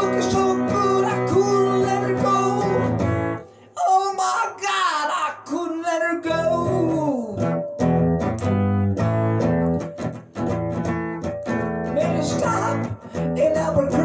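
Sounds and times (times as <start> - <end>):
electric guitar boogie rhythm: 0.0 - 3.7, 6.2 - 14.0.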